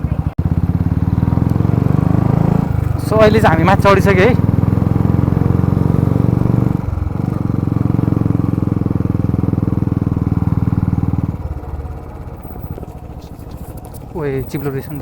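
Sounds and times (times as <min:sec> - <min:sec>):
motorbike engine under throttle: 0:00.0 - 0:15.0.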